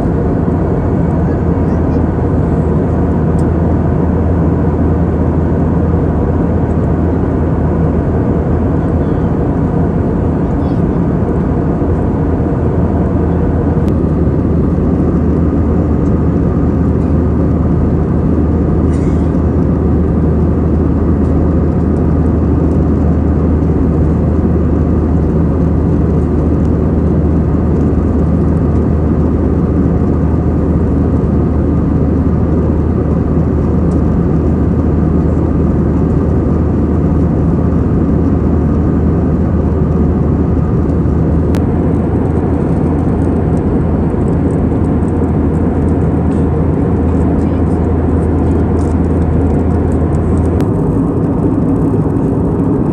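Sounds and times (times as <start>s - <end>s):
airplane cabin drone: 0.0s - 52.9s.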